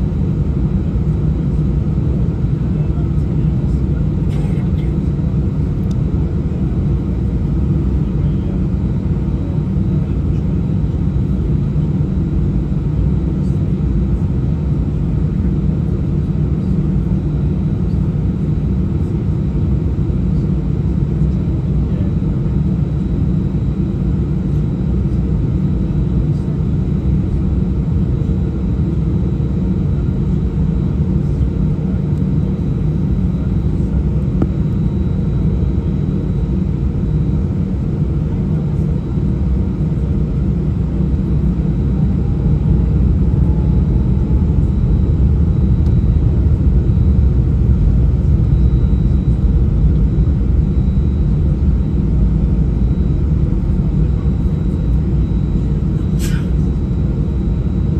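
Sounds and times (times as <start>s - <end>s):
faint steady whine: 0.0s - 57.9s
jet engines idling in cabin: 0.0s - 57.9s.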